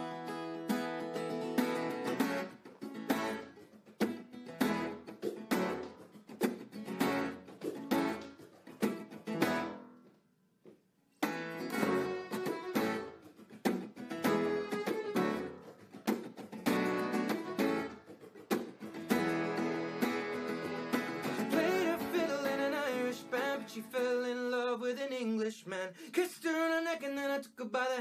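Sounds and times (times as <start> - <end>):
acoustic guitar strumming: 0.0 - 10.0, 11.2 - 25.1.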